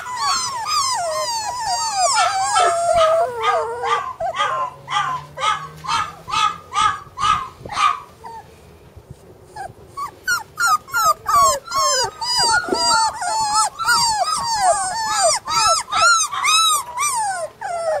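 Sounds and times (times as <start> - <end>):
puppies whining: 0.0 - 8.5, 9.5 - 18.0
puppy yelps: 0.0 - 8.5, 9.5 - 18.0.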